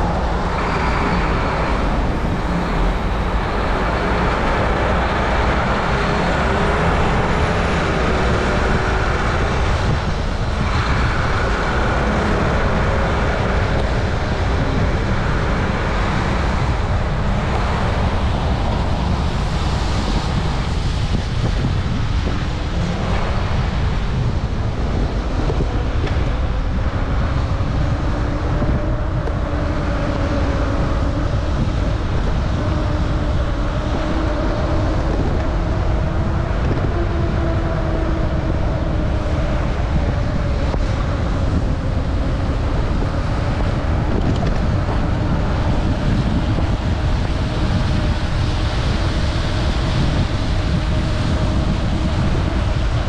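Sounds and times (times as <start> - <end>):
low droning hum: 0.0 - 53.0
wind rushing over microphone: 0.0 - 53.0.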